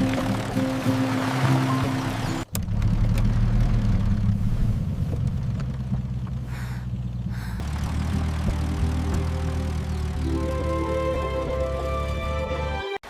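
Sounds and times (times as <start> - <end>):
vehicle engine rumbling: 0.0 - 12.7.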